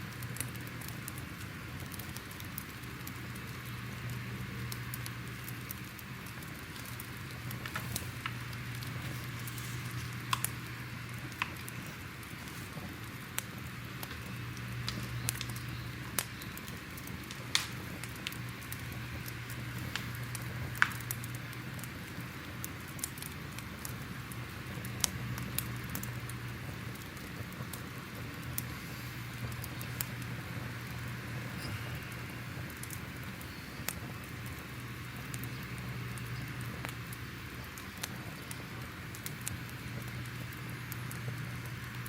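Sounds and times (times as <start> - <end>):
faint low hum: 0.0 - 42.0
fire crackling and popping: 0.0 - 42.0
fire hiss: 0.0 - 42.0.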